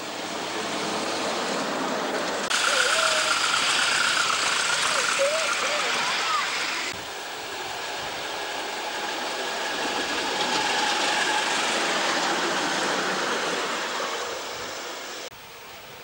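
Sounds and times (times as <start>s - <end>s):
miniature steam locomotive passing: 0.0s - 16.0s.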